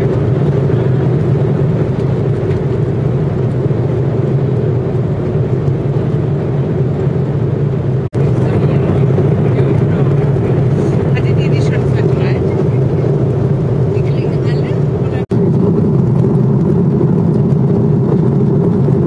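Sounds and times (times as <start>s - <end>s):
airliner cabin drone: 0.0s - 19.0s.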